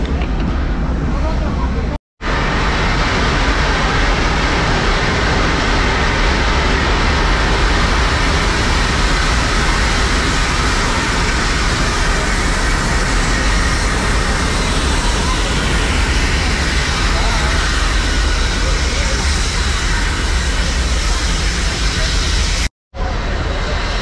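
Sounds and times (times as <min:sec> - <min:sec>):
train coach rumbling in tunnel: 0:00.0 - 0:24.0.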